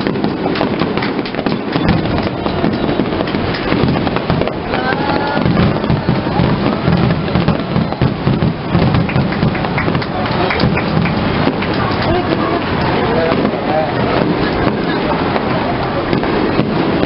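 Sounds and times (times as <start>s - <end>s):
fireworks crackling: 0.0s - 17.0s
fireworks shells bursting: 0.0s - 17.0s.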